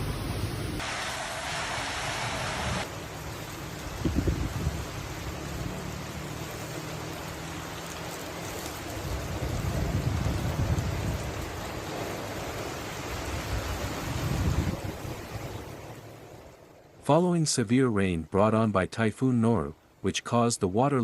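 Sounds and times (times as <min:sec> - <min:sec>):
heavy rain: 0:00.0 - 0:17.5.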